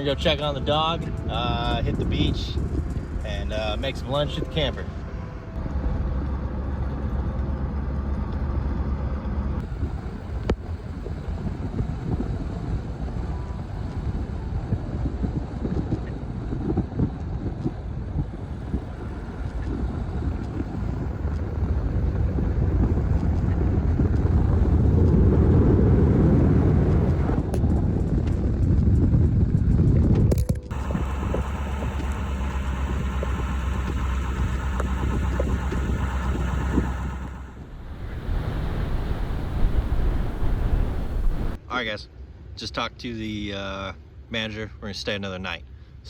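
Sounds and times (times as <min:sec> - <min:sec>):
wind noise: 0:00.0 - 0:41.7
low rumbling road noise: 0:00.0 - 0:46.0.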